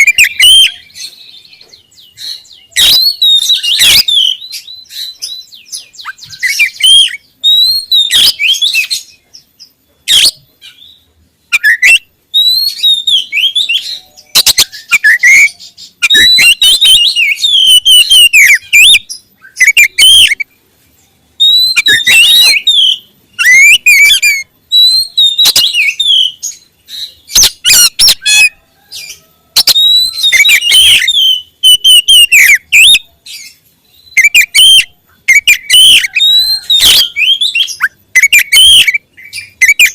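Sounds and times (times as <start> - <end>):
bird singing whistled phrases: 0.0 - 9.2, 10.1 - 20.5, 21.4 - 39.9.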